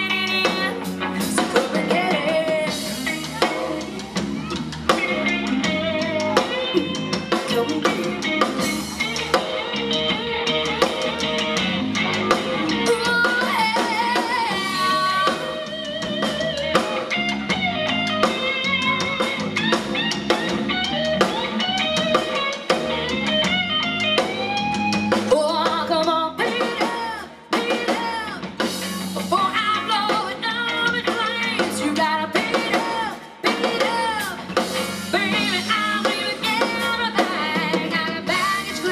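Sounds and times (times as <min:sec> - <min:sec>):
bass guitar: 0:00.0 - 0:38.9
drum kit: 0:00.0 - 0:38.9
electric guitar: 0:00.0 - 0:38.9
woman singing lead: 0:00.0 - 0:38.9.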